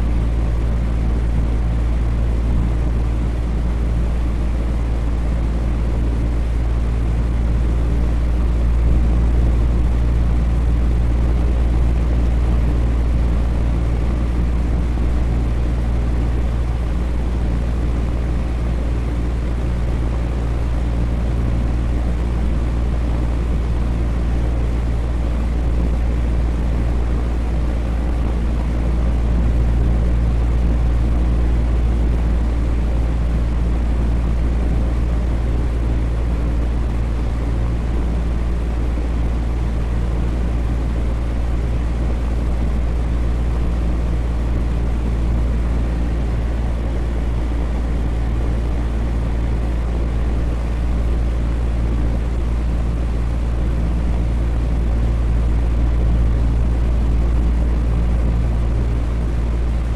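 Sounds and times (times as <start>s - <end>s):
electric fan whirring: 0.0s - 59.9s.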